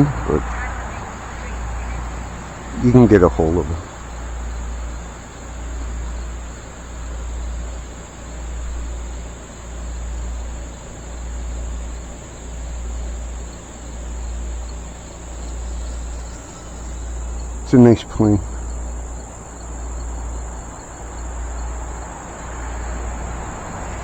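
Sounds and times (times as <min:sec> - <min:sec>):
field insects chirring: 0:00.0 - 0:24.0.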